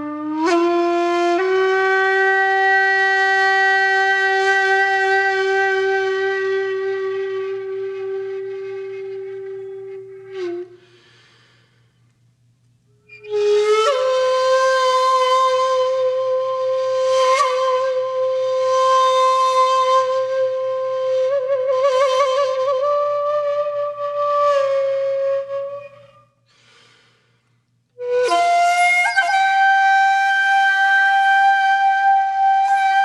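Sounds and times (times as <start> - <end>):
solo flute playing slowly: 0.0 - 11.2, 12.9 - 26.4, 28.0 - 33.0.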